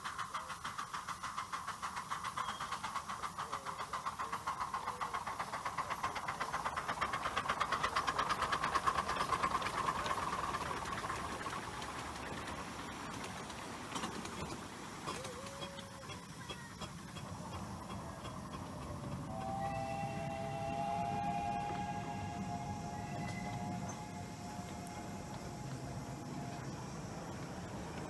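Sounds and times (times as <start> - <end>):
steam hiss: 0.0 - 28.0
steam locomotive chuffing: 0.0 - 28.0.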